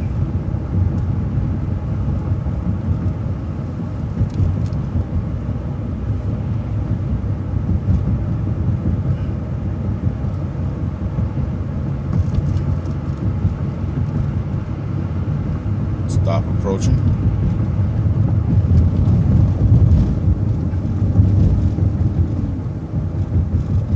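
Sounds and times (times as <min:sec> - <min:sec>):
road noise: 0:00.0 - 0:23.9
vehicle engine rumble: 0:00.0 - 0:23.9.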